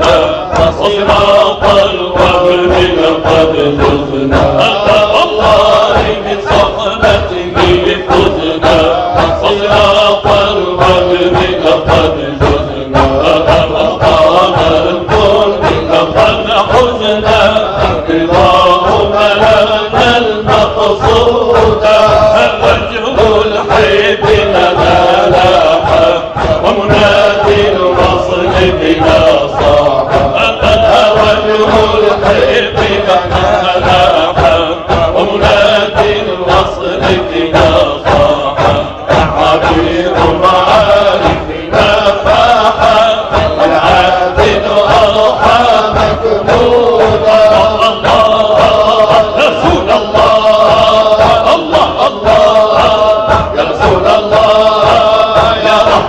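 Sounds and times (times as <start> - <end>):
men chanting in chorus: 0.0 - 56.0
percussion beats: 0.0 - 56.0.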